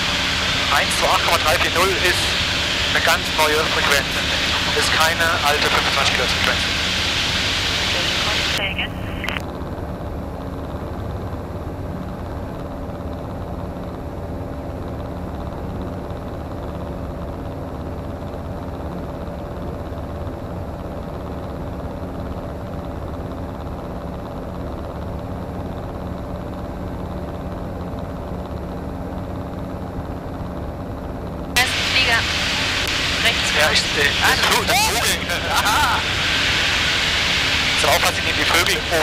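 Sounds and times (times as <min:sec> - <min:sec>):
light aircraft engine droning: 0:00.0 - 0:39.0.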